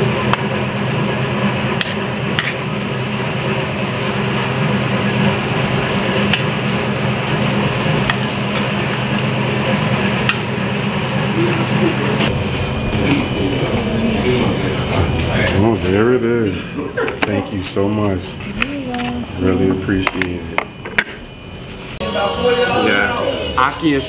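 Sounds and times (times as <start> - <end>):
low kitchen hum: 0.0 - 24.0.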